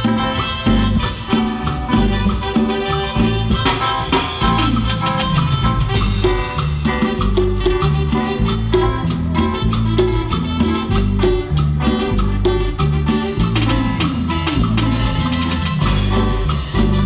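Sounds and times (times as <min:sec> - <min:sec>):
live band playing latin dance music: 0:00.0 - 0:17.0.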